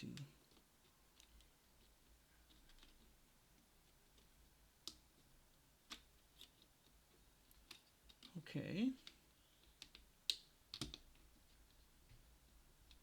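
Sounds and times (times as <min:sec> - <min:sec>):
faint sharp clicks of small parts: 0:00.0 - 0:13.0.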